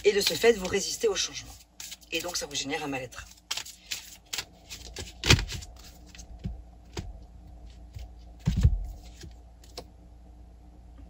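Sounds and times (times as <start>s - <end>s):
cards being shuffled: 0.0s - 2.5s, 3.2s - 9.8s.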